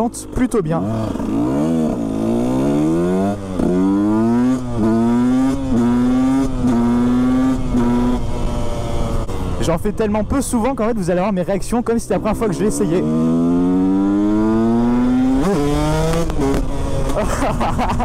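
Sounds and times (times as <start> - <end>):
two-stroke engine accelerating: 0.0 - 10.8, 11.6 - 18.0.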